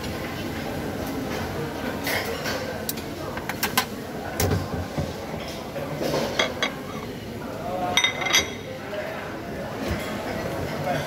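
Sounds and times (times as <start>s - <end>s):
restaurant background din: 0.0s - 11.0s.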